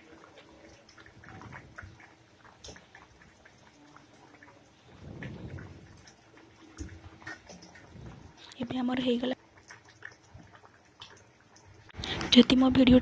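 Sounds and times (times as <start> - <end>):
curry bubbling in a pan: 0.0 - 12.6.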